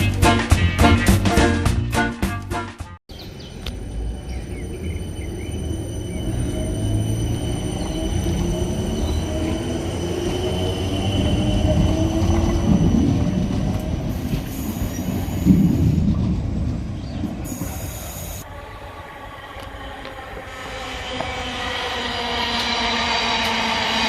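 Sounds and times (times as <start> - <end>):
train wheels rumbling on rail: 3.1 - 24.0.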